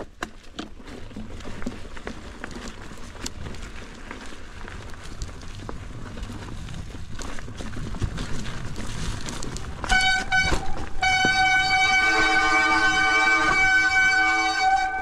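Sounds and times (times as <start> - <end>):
bike rattling over rough trail: 0.0 - 15.0.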